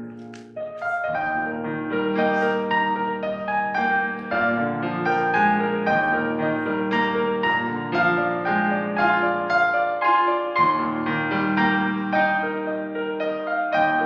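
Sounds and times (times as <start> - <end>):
slow solo piano melody: 0.0 - 14.0.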